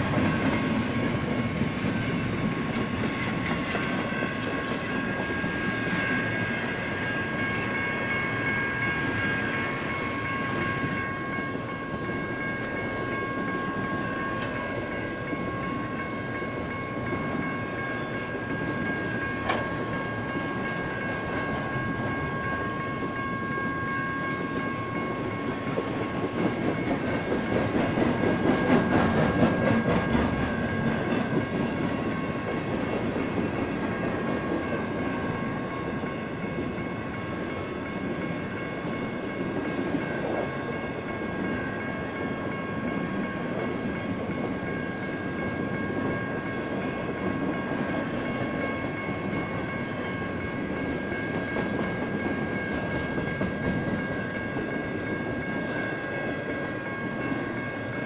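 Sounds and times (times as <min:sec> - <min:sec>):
crossing bells ringing: 0:00.0 - 0:58.0
train wheels clattering on rails: 0:00.0 - 0:58.0.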